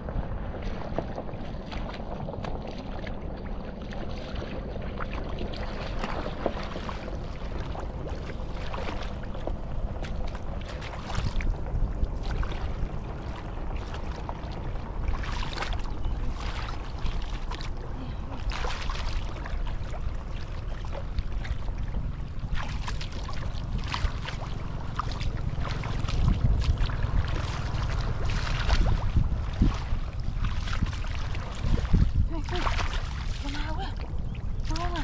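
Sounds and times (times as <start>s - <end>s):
splashing in shallow water and mud: 0.0s - 35.0s
wind buffeting microphone: 0.0s - 35.0s.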